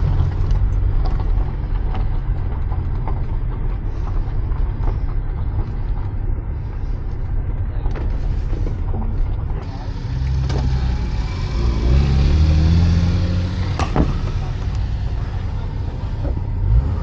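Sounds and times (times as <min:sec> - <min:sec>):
car interior engine rumble: 0:00.0 - 0:17.0.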